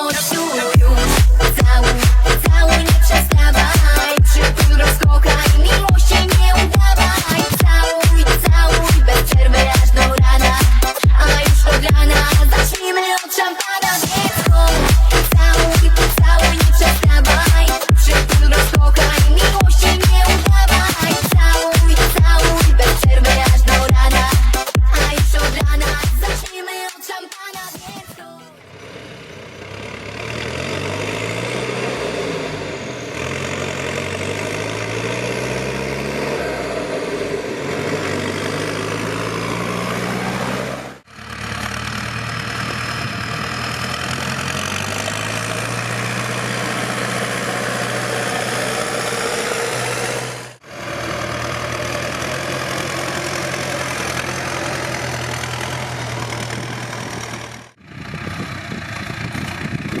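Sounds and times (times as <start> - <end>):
tractor diesel engine running: 0.0 - 12.8, 14.0 - 26.5, 28.6 - 60.0.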